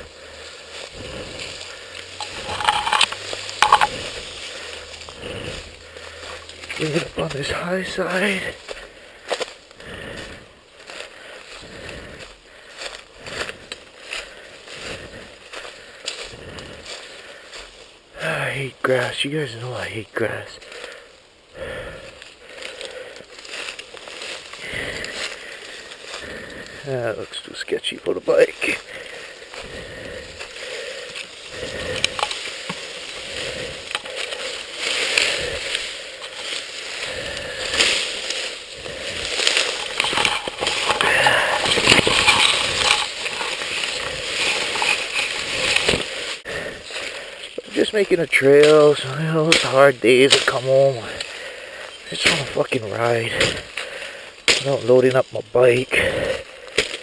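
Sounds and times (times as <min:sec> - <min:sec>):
footsteps through dry grass and brush: 0:00.0 - 0:18.5, 0:20.3 - 0:57.0.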